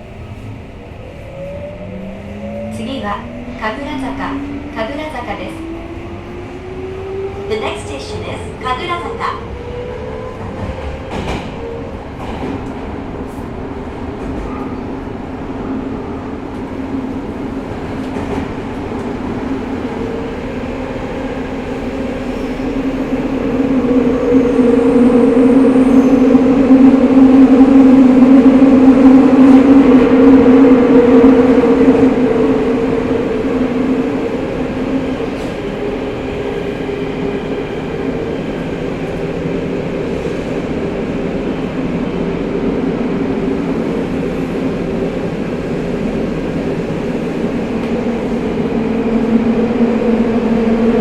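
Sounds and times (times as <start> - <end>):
subway train motor hum: 0.0 - 51.0.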